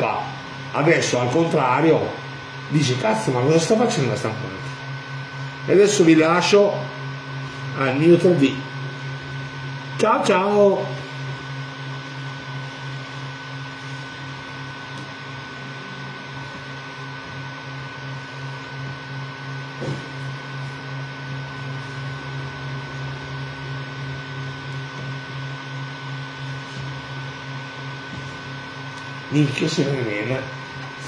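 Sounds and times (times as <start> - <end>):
printer fans and motors humming: 0.0 - 31.0
thin high whine: 0.0 - 31.0.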